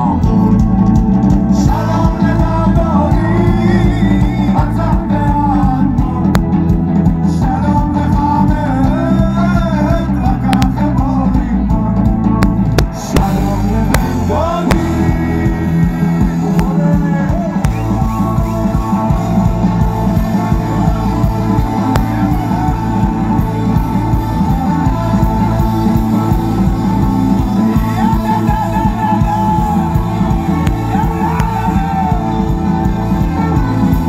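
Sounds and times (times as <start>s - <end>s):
live rock band instrumental: 0.0s - 34.0s.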